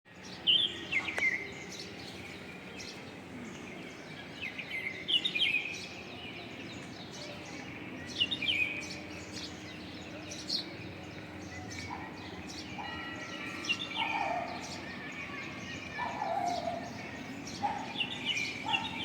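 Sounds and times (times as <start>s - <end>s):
sparrows chirping: 0.1s - 19.0s.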